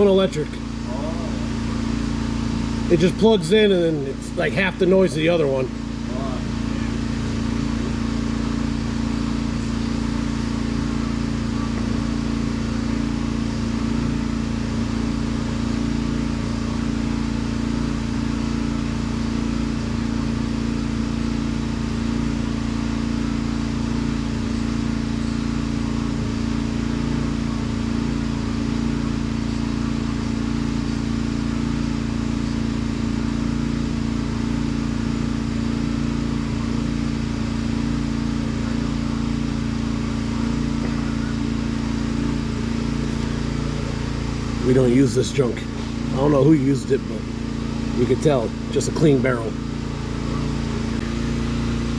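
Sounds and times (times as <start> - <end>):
machine droning: 0.0 - 51.9.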